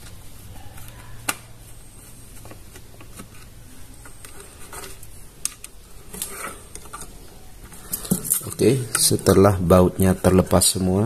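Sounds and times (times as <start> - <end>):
plastic handling and ticking: 0.0 - 10.4.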